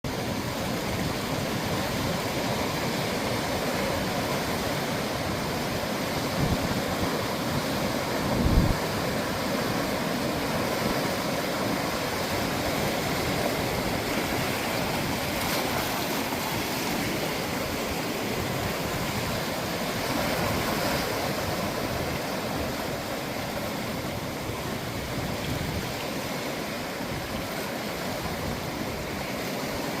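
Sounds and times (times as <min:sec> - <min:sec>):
waves breaking on shore: 0:00.1 - 0:30.0.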